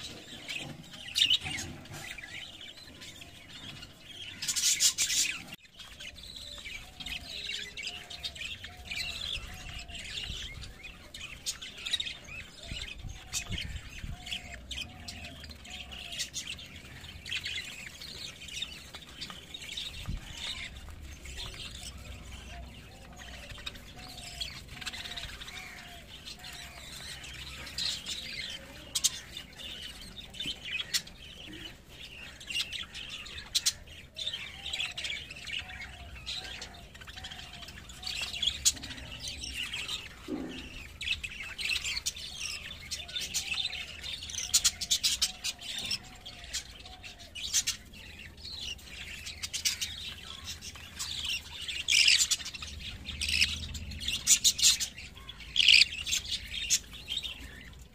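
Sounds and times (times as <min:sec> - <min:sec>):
budgerigar chicks chirping: 0:00.0 - 0:57.9.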